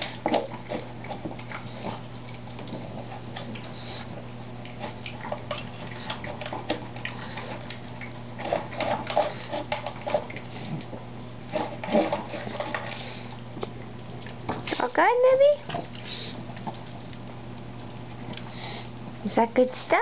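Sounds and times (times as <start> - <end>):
dog eating from plastic bowl: 0.0 - 19.9.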